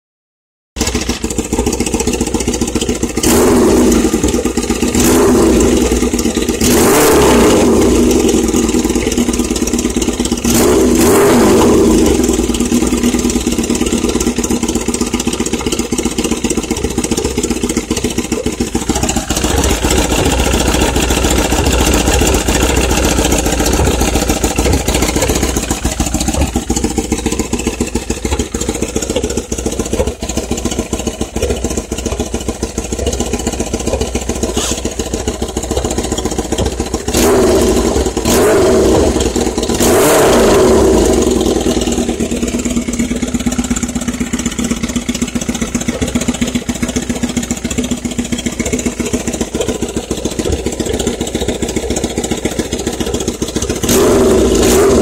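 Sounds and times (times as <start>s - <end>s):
motorcycle engine idling: 0.8s - 55.0s
motorcycle engine revving: 0.8s - 55.0s.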